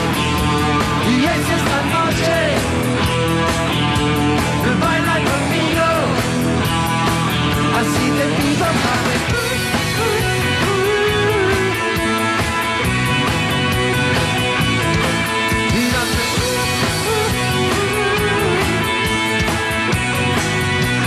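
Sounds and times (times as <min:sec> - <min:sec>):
drums: 0:00.0 - 0:21.0
electric guitars: 0:00.0 - 0:21.0.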